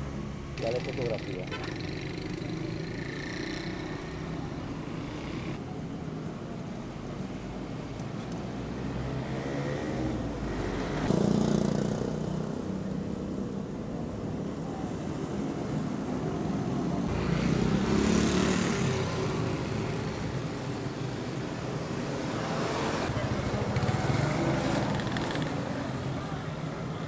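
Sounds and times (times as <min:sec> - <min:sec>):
vehicles passing on street: 0:00.0 - 0:27.0.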